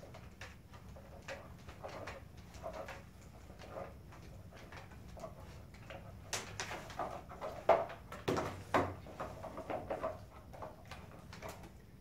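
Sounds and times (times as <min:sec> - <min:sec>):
puppet rods clicking and tapping: 0:00.0 - 0:11.8.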